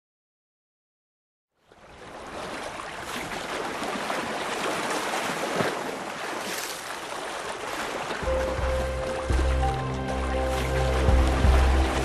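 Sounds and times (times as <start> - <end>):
stream rushing over rocks: 2.1 - 12.0.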